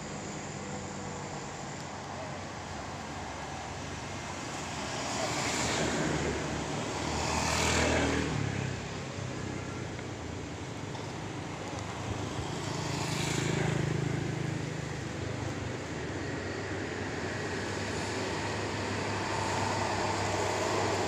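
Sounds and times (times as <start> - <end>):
steady hum of traffic: 0.0 - 21.0
vehicles passing by: 0.0 - 21.0.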